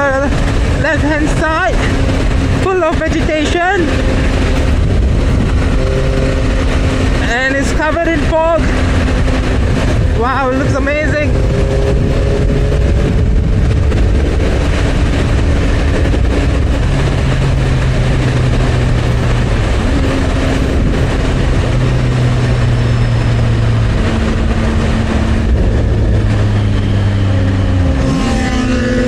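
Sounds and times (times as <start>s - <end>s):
motorcycle engine cruising: 0.0s - 29.0s
wind and road noise: 0.0s - 29.0s.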